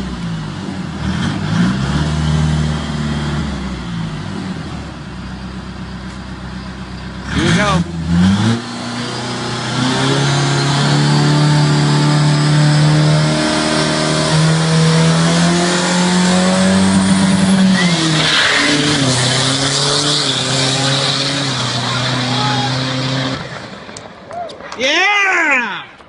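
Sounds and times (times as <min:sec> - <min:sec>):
truck engine at full throttle: 0:00.0 - 0:24.3.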